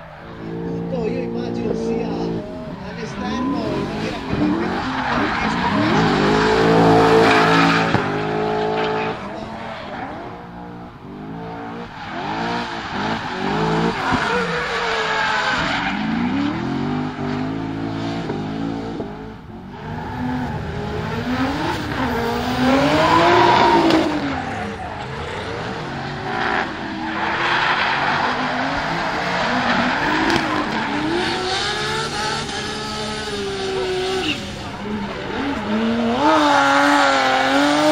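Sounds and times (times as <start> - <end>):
car engines revving hard: 0.0 - 37.9
tyres squealing and skidding: 0.0 - 37.9.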